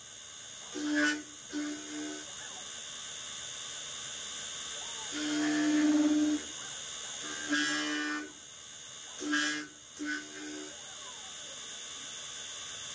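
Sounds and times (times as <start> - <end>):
high-pitched machine whine: 0.0 - 12.9.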